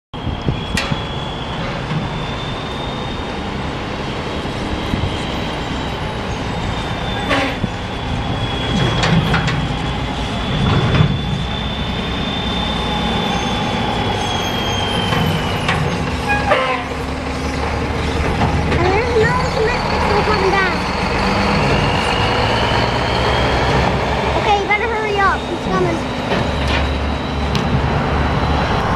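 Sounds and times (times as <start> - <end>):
truck engine rumbling: 0.1 - 28.9.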